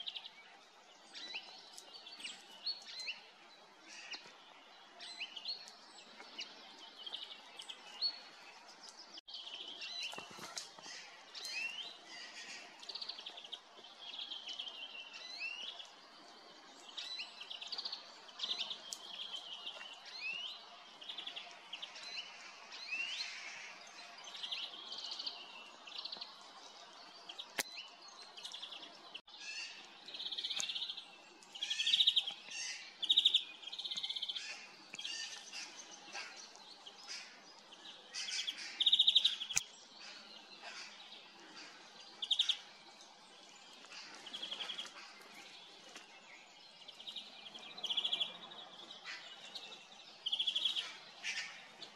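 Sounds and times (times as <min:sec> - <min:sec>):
small birds chirping and trilling: 0:00.0 - 0:51.9.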